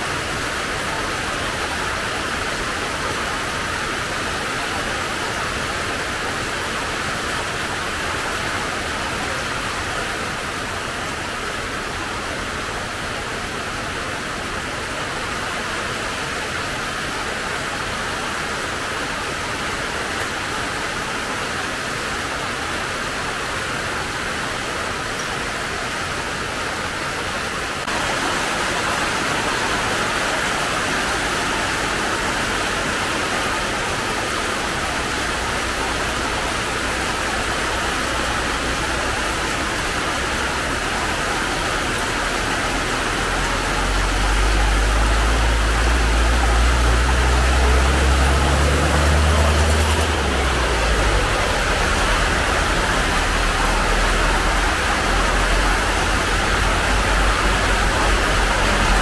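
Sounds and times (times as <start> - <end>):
rain pouring on plants: 0.0 - 59.0.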